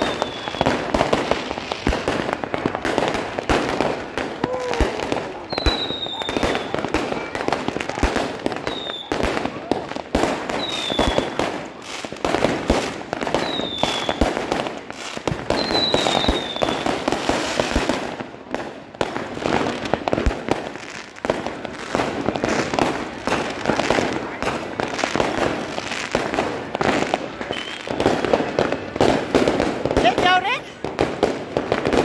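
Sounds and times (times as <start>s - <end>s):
firecrackers cracking: 0.0s - 32.0s.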